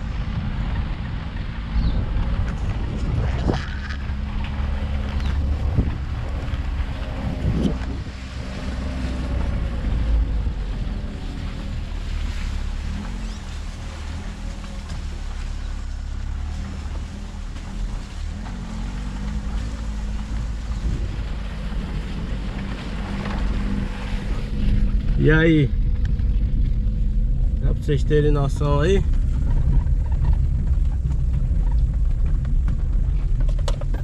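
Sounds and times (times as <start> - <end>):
wind noise on microphone: 0.0 - 14.0, 17.8 - 27.9, 28.6 - 34.0
car engine running: 0.0 - 34.0
tyres rumbling on dirt track: 0.0 - 34.0.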